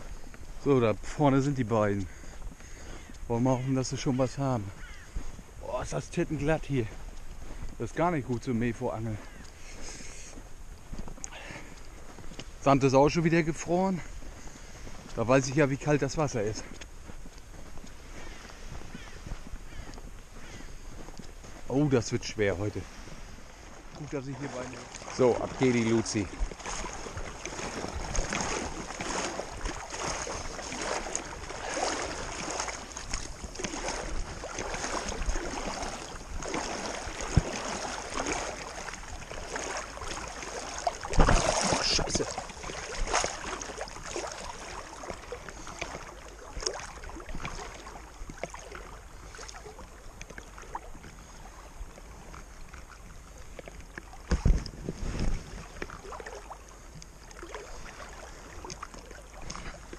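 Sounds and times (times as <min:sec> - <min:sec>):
water sloshing around waders: 0:00.0 - 0:59.9.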